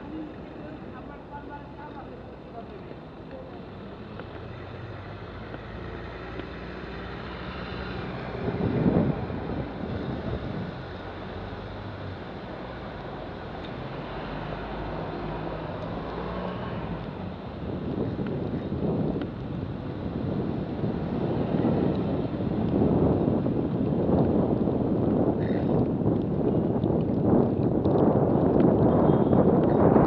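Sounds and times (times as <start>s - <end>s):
passing traffic rushing: 0.0s - 25.7s
wind on microphone: 4.7s - 30.0s.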